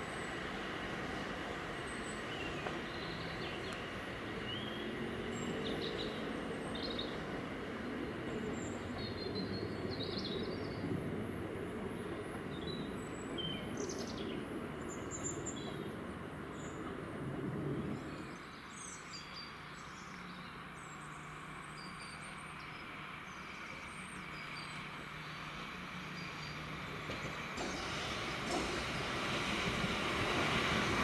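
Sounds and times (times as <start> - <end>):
electric train rumbling: 0.0 - 18.5, 24.2 - 31.0.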